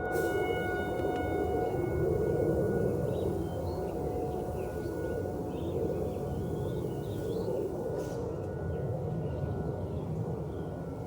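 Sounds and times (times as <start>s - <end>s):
distant warning sirens drone: 0.0s - 11.0s.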